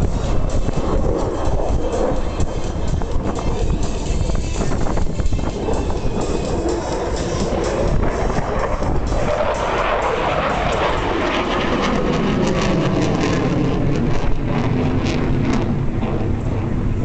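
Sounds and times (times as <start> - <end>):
fighter jet engine roar: 0.0 - 17.0.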